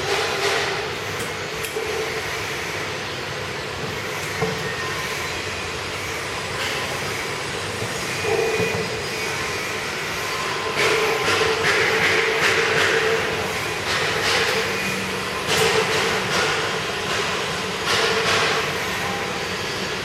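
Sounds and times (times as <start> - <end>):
powder grinding machine whirring: 0.0 - 20.0.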